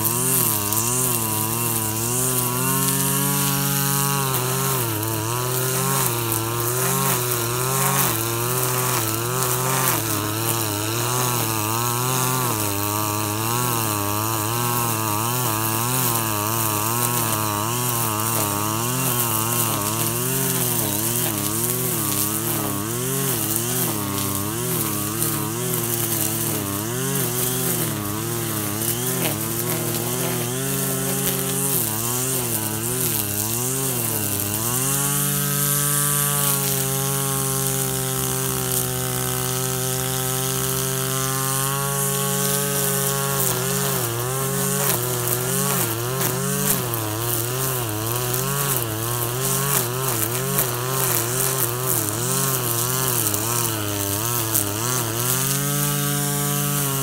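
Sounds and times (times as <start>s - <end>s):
brush cutter engine cutting grass: 0.0s - 57.0s.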